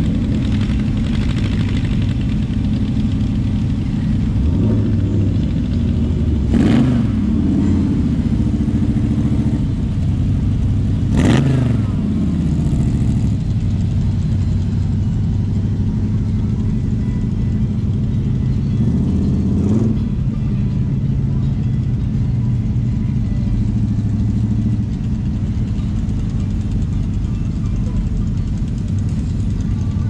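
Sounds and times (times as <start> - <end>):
car engines running: 0.0 - 30.0
vehicles passing close: 0.0 - 30.0.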